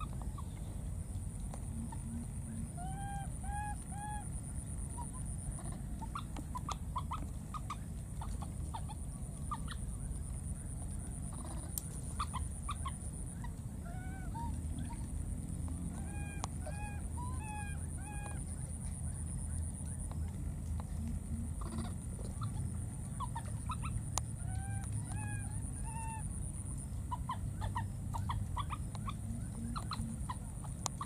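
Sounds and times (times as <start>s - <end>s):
infant monkey calls: 0.0s - 0.7s, 1.7s - 20.3s, 21.3s - 31.0s.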